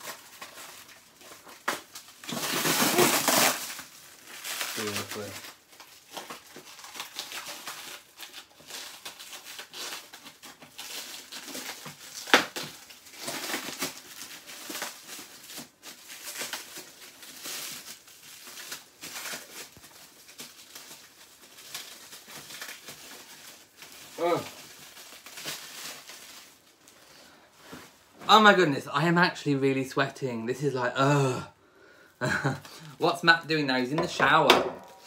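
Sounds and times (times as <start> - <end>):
plastic wrapping crinkling: 0.0 - 28.4, 32.2 - 35.0.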